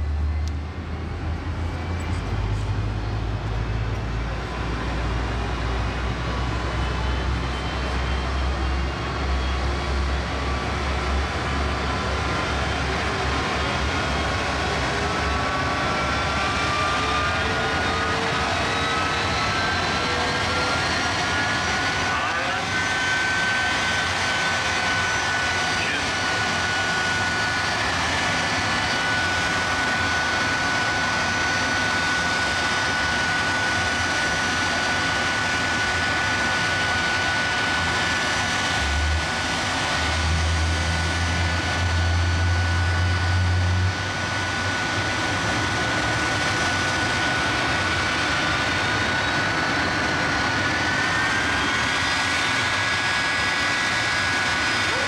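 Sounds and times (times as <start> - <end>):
jet engines idling with whistle: 0.0 - 55.0.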